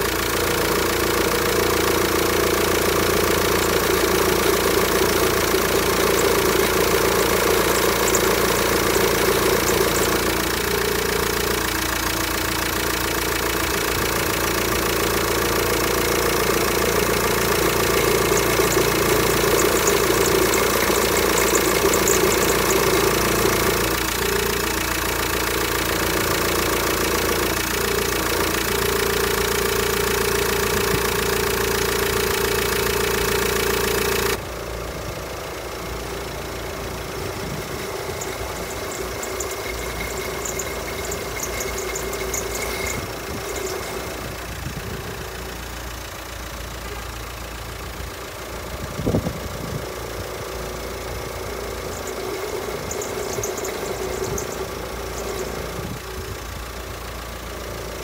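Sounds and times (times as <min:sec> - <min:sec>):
diesel engine idling: 0:00.0 - 0:58.0
power steering pump whine: 0:00.0 - 0:58.0.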